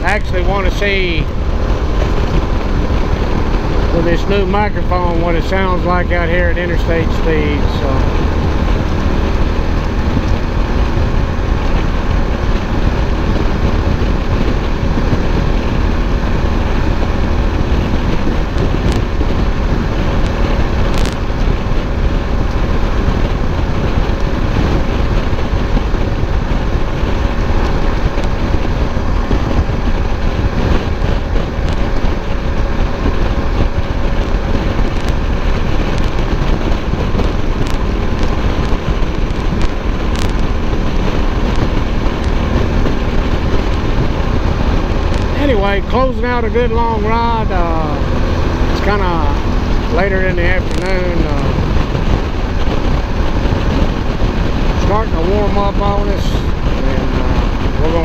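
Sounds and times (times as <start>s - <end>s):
motorcycle engine: 0.0s - 58.0s
road noise: 0.0s - 58.0s
wind noise: 0.0s - 58.0s.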